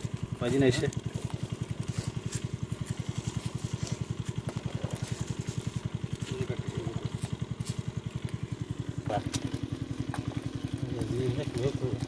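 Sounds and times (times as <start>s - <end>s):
small engine thumping: 0.0s - 12.0s.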